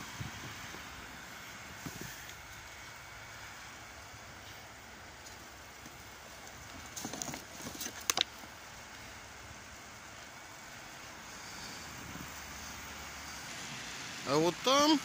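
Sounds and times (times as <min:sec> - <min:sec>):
low steady background hiss: 0:00.0 - 0:15.0.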